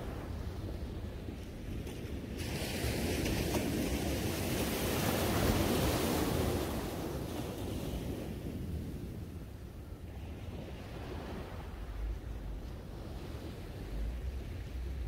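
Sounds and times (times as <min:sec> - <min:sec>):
sea waves breaking on beach: 0:00.0 - 0:15.0
wind rumble on microphone: 0:00.0 - 0:15.0.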